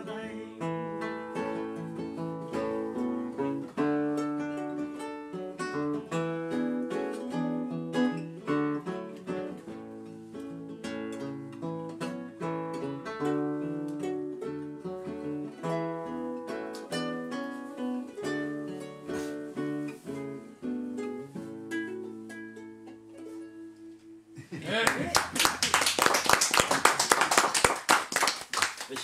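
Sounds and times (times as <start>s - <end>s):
acoustic guitar playing: 0.0s - 28.6s.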